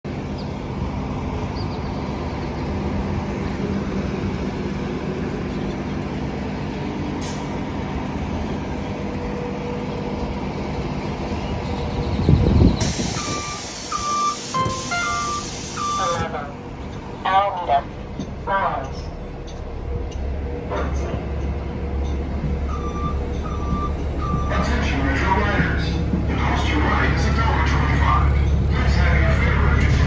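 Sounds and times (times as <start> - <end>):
street traffic rumble: 0.0 - 30.0
heavy vehicle engine running: 0.1 - 30.0.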